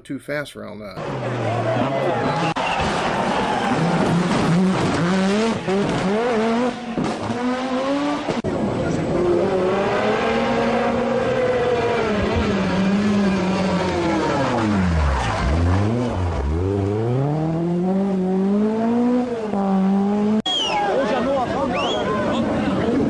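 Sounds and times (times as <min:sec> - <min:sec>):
rally car engine revving: 0:01.0 - 0:23.0.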